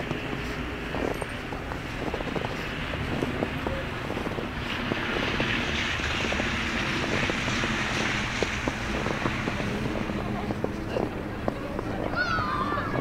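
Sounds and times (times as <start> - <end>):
footsteps crunching in snow: 0.0 - 12.4
steady outdoor rumble: 0.0 - 13.0.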